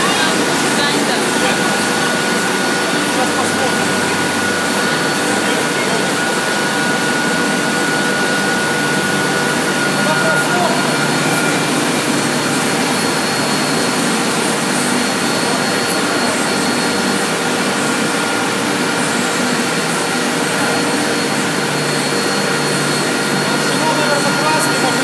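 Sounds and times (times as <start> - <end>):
high machine whines: 0.0 - 25.0
loud rush of air from blowers: 0.0 - 25.0.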